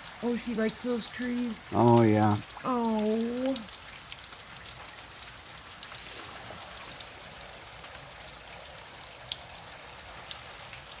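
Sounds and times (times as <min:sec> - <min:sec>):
freezing rain hissing: 0:00.0 - 0:03.7, 0:05.4 - 0:11.0.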